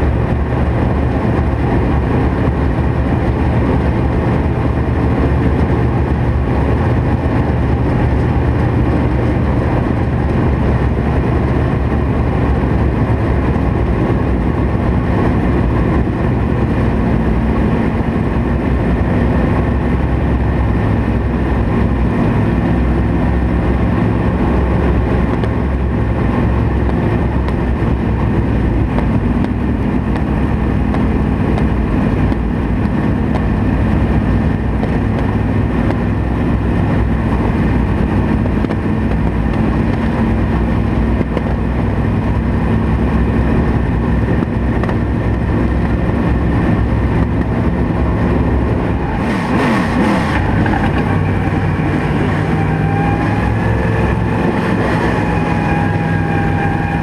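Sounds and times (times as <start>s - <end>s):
race car engine running: 0.0s - 57.0s.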